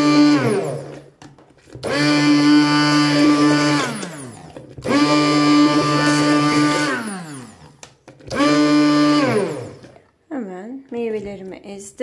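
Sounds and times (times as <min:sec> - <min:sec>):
hand blender whining: 0:00.0 - 0:10.1.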